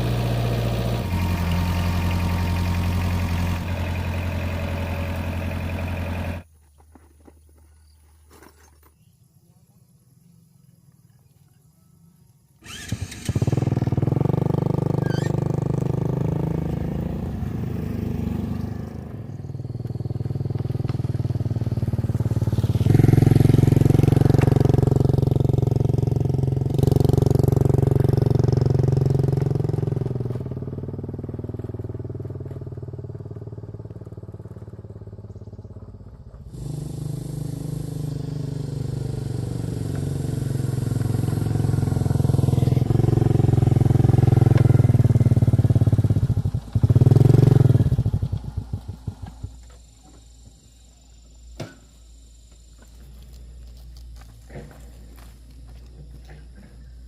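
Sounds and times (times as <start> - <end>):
engine running: 0.0 - 6.5, 12.6 - 57.0.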